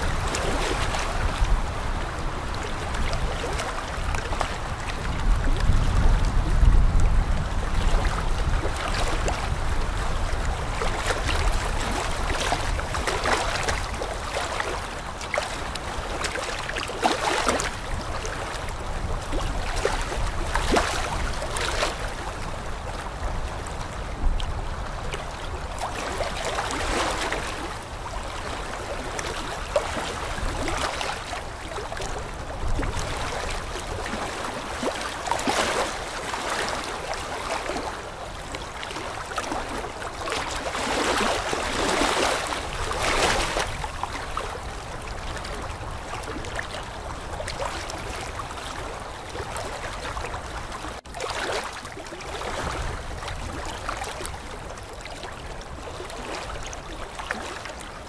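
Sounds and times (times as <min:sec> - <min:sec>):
water gurgling and splashing: 0:07.5 - 0:22.6, 0:25.4 - 0:58.0.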